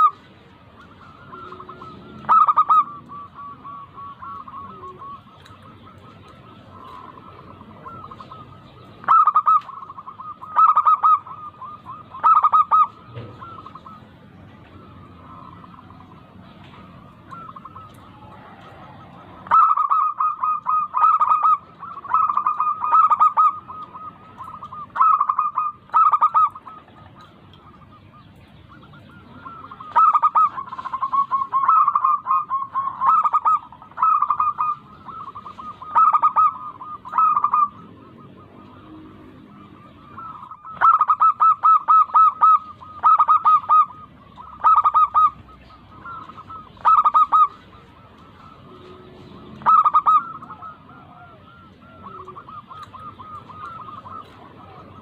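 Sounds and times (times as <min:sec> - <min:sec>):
dove rhythmic cooing: 0:00.0 - 0:55.0.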